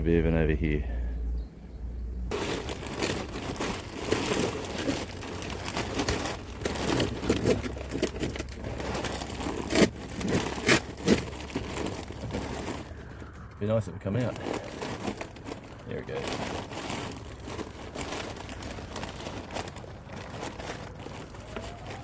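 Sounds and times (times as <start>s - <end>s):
crinkling and rustling: 2.3s - 22.0s.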